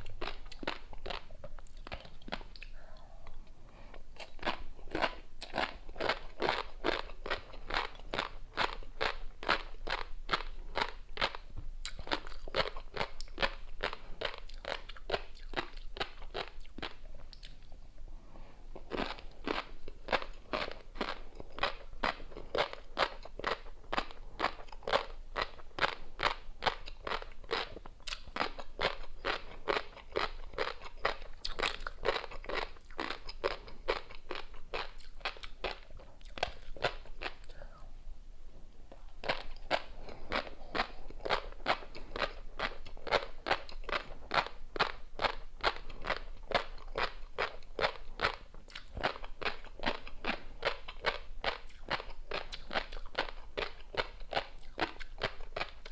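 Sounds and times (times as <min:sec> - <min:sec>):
crunchy chewing: 0:00.0 - 0:17.8, 0:18.7 - 0:37.9, 0:38.9 - 0:55.9.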